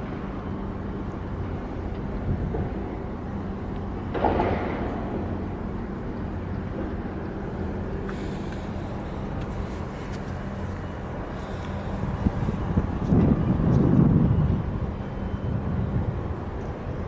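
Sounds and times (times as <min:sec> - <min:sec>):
ship engine drone: 0:00.0 - 0:17.0.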